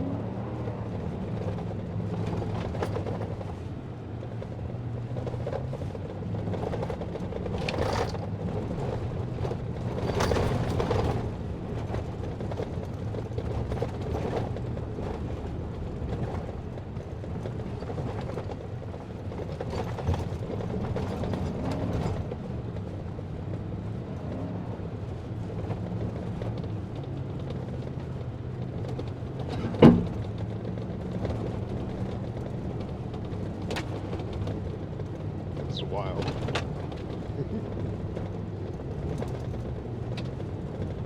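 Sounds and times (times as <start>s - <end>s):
vehicle engine hum: 0.0s - 41.0s
creaks and rattles: 0.8s - 3.7s, 4.3s - 41.0s.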